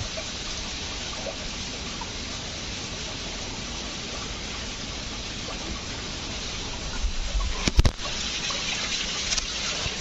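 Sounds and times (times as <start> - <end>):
stream water flowing over rock: 0.0 - 10.0.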